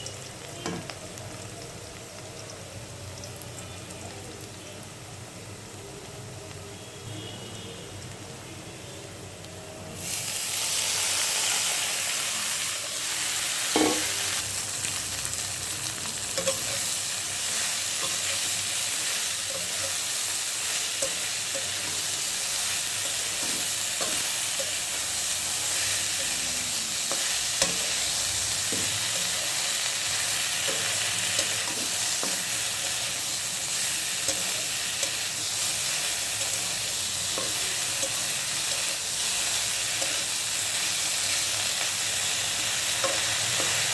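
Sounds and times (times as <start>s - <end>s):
greens sizzling in a pan: 0.0s - 43.9s.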